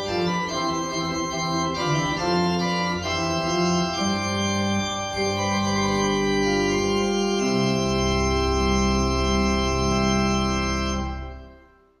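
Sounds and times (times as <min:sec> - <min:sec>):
organ playing sustained chords: 0:00.0 - 0:12.0.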